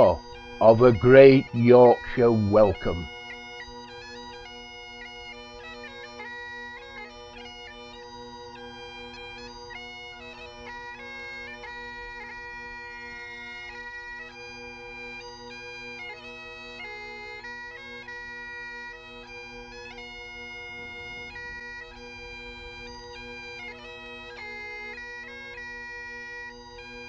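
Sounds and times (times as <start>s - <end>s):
bagpipes playing a tune: 0.0s - 27.0s.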